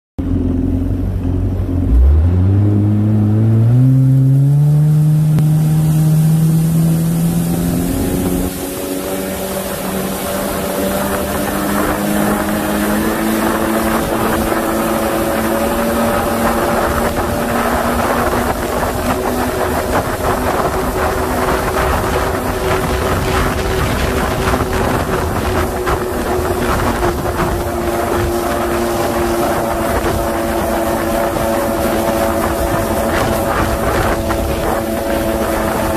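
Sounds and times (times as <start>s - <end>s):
rushing wind and water: 0.2s - 35.9s
watercraft engine accelerating: 0.2s - 35.9s.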